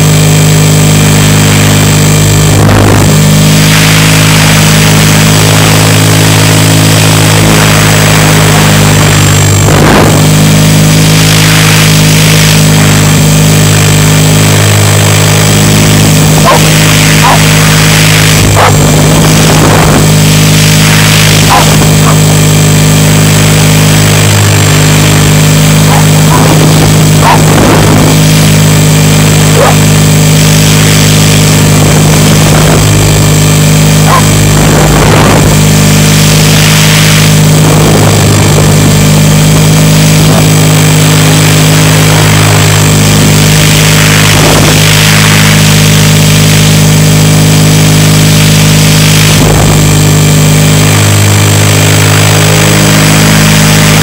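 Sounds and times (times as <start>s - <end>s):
helicopter motor and rotor drone: 0.0s - 54.0s.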